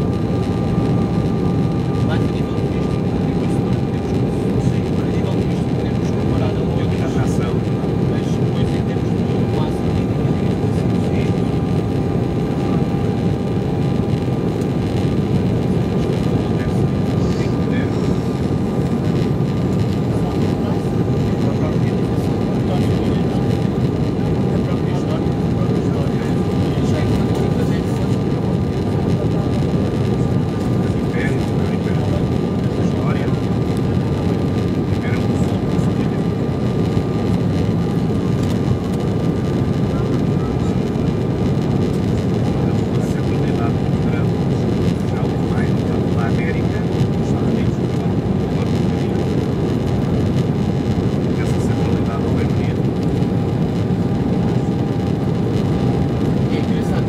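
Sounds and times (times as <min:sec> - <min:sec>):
jet engine cabin roar: 0:00.0 - 0:57.0.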